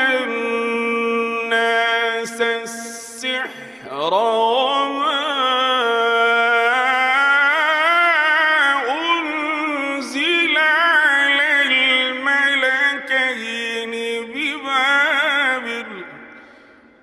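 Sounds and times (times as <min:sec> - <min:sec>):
man chanting melodically: 0:00.0 - 0:16.4.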